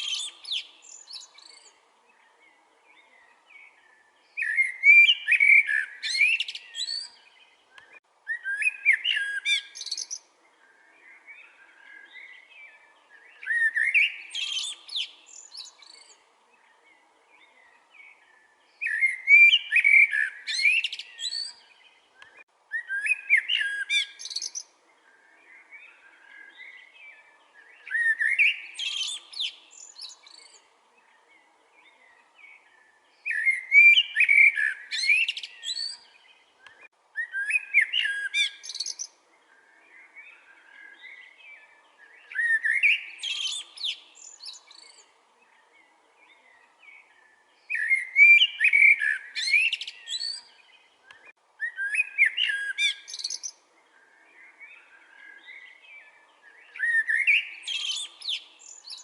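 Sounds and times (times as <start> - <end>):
soft bird chirps: 0.0 - 59.0
songbird singing: 0.0 - 59.0.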